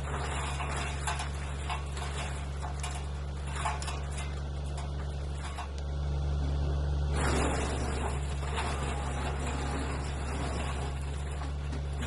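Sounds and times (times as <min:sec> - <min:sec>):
wood chipper humming: 0:00.0 - 0:12.0.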